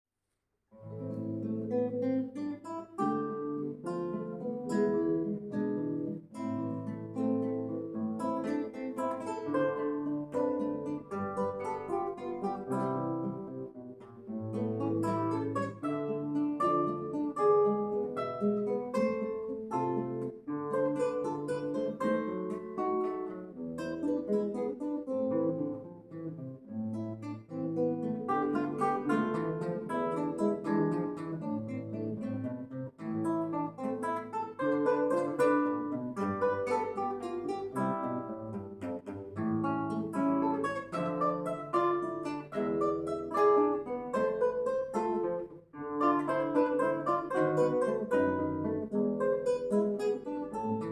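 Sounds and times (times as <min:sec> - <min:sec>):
acoustic guitar playing: 0:00.7 - 0:50.9.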